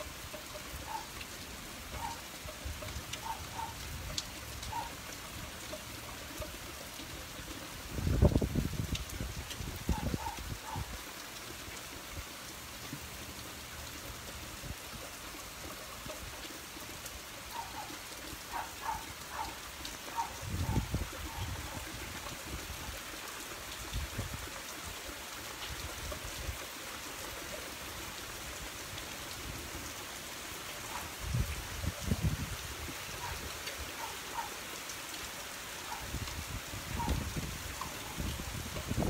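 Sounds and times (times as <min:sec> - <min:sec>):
rain on pavement and puddles: 0:00.0 - 0:39.0.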